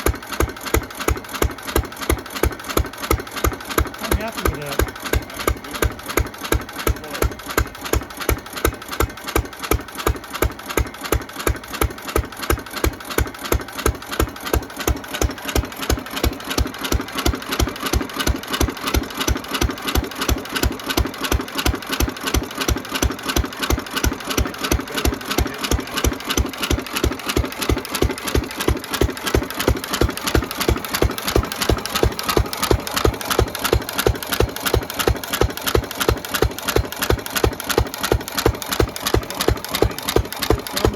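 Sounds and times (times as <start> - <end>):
stationary engine running: 0.0 - 40.9.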